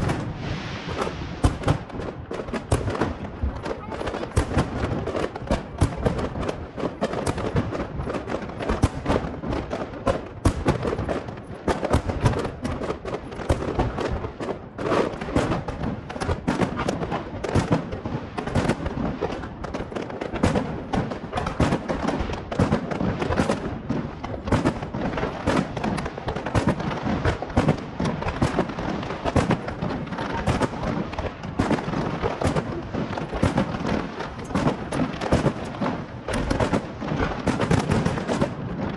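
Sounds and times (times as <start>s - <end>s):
fireworks bangs and crackling: 0.0s - 38.9s
loud fireworks booms: 0.0s - 38.9s.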